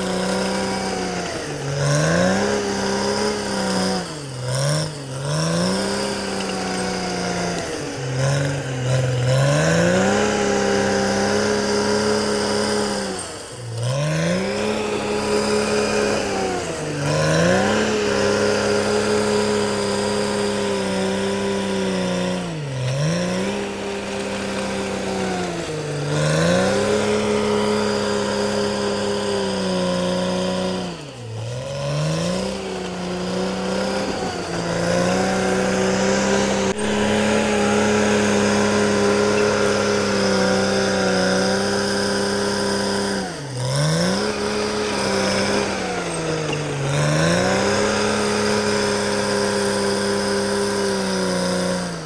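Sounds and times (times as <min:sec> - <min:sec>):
bulldozer diesel engine running hard: 0:00.0 - 0:52.0.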